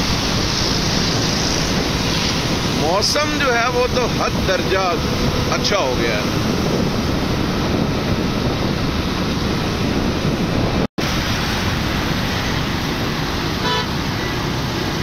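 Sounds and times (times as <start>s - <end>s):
traffic: 0.0s - 15.0s
tyres on wet road: 0.0s - 15.0s
wind rushing over microphone: 0.0s - 15.0s.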